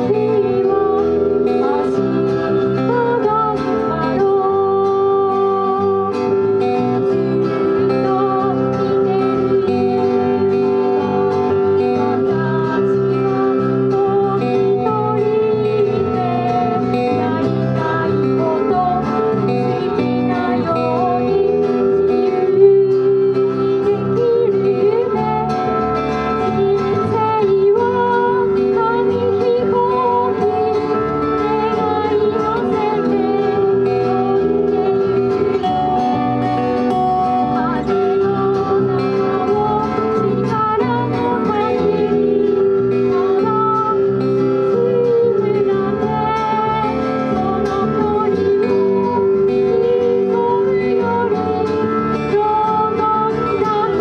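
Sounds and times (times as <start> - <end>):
electric bass: 0.0 - 54.0
strummed acoustic guitars: 0.0 - 54.0
woman singing into a microphone: 0.0 - 54.0.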